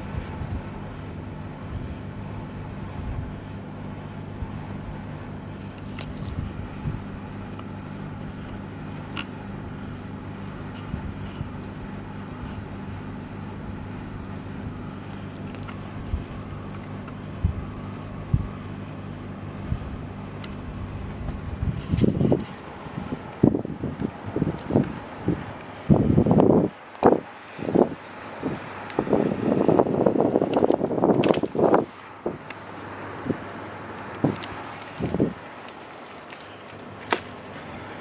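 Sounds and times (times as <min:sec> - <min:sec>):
air conditioner humming: 0:00.0 - 0:38.0.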